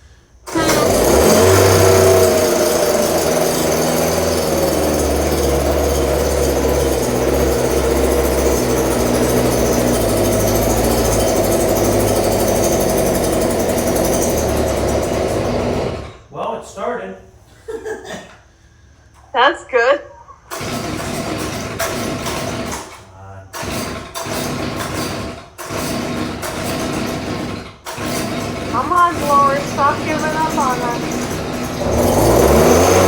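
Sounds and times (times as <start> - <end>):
leaf blower engine starting and running: 0.0 - 16.3, 20.5 - 33.0.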